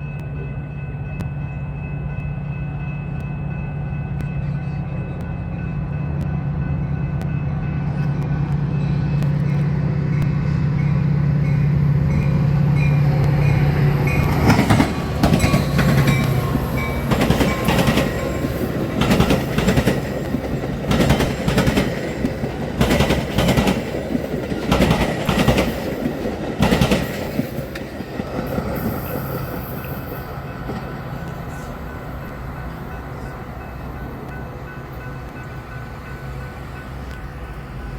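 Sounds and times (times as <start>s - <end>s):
locomotive engine hum: 0.0s - 37.9s
train wheels clacking over crossing: 0.0s - 37.9s.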